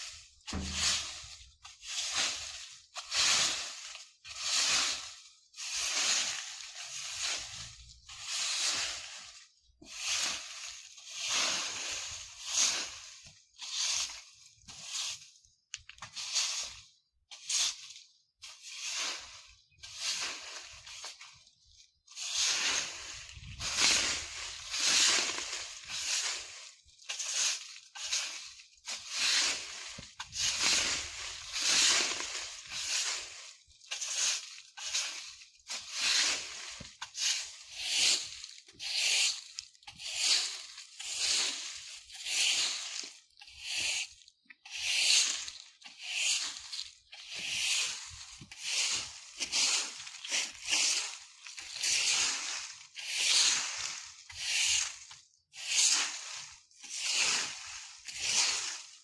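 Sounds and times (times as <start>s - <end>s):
broom sweeping dry leaves: 0.0s - 15.5s, 16.1s - 59.0s.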